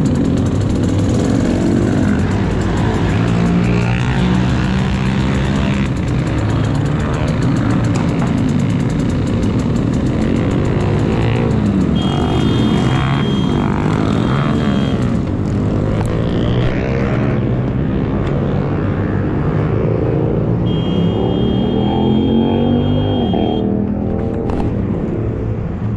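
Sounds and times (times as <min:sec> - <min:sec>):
motorcycle engines revving: 0:00.0 - 0:25.9.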